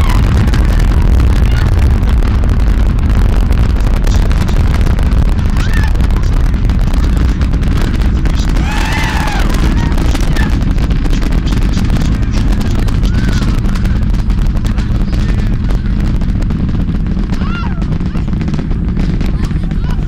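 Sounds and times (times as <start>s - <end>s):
rapid crackling: 0.0s - 20.0s
rocket exhaust rumble: 0.0s - 20.0s.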